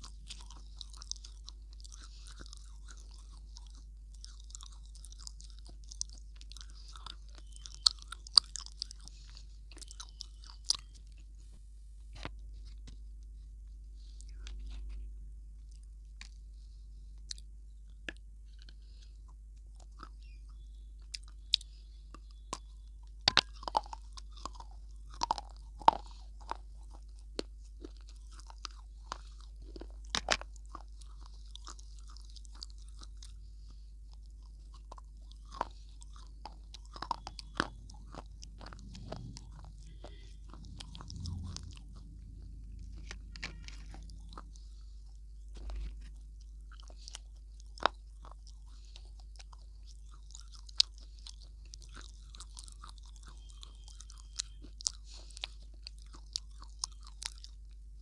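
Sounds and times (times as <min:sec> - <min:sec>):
crunchy food chewing: 0:00.0 - 0:58.0.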